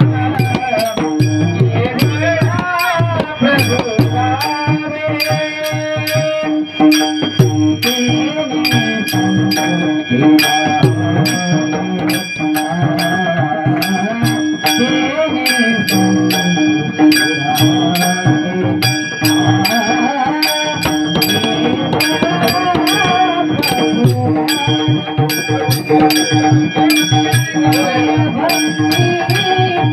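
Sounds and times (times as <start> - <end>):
hand cymbals struck: 0.0 - 29.9
harmonium drone: 0.0 - 29.9
person singing: 0.0 - 29.9.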